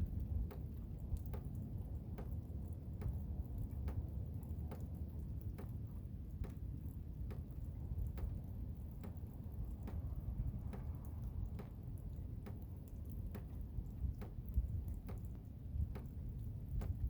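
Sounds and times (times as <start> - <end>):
faint ticks: 0.1 - 17.0.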